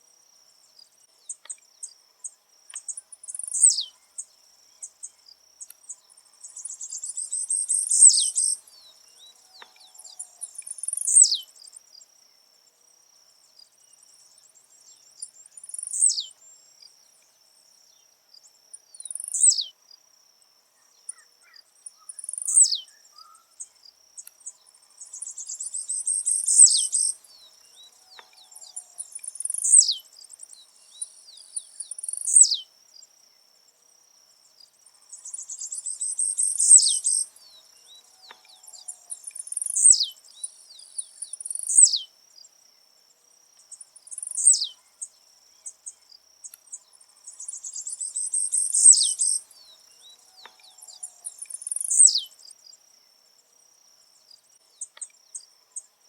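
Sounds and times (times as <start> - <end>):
bird buzzy song: 0.0 - 20.0, 20.6 - 33.8, 34.4 - 42.6, 43.5 - 53.2, 54.1 - 56.0
insect trill: 0.0 - 56.0.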